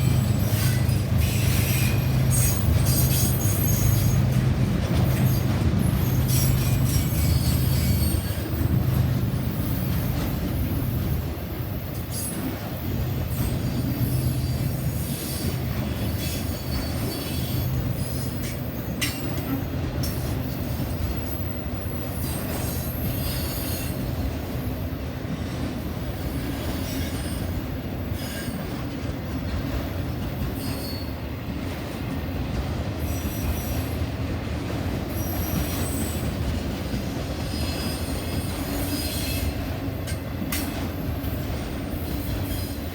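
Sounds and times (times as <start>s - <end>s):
railroad cars rumbling: 0.0s - 42.9s.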